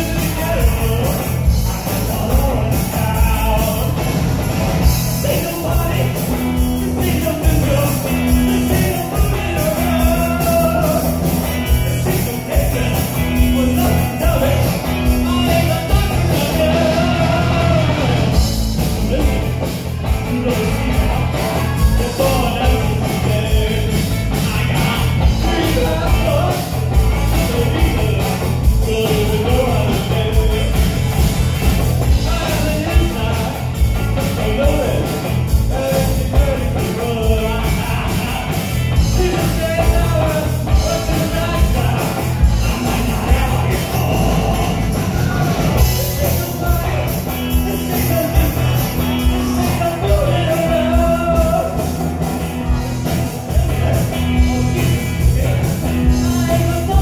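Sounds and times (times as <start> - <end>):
lead singer singing: 0.0 - 57.0
live rock band playing: 0.0 - 57.0.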